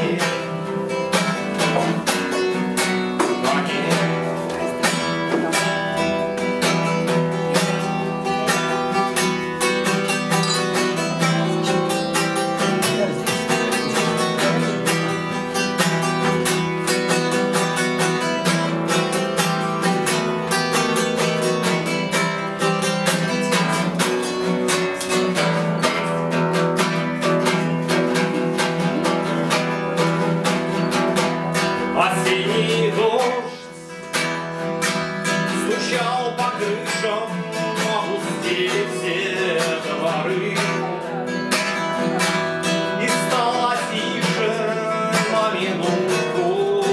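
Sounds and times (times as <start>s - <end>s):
classical acoustic guitar: 0.0s - 46.9s.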